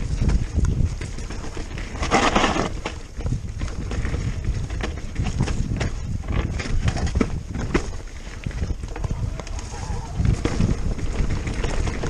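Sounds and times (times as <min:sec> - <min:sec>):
bike clicks and rattles: 0:00.0 - 0:12.0
tyres on dirt: 0:00.0 - 0:12.0
wind on microphone: 0:00.0 - 0:12.0.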